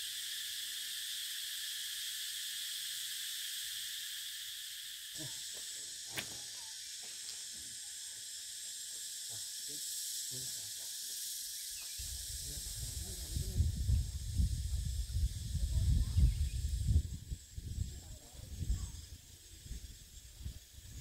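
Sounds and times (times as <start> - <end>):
insects hissing: 0.0 - 21.0.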